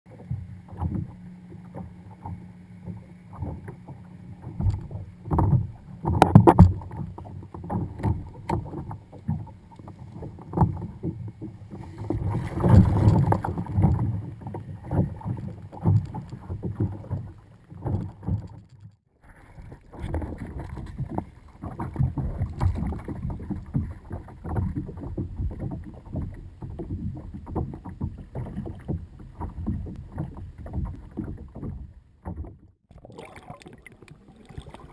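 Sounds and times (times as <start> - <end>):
boat knocking: 0.1 - 18.6, 20.1 - 32.7
water slapping against hull: 0.1 - 34.9.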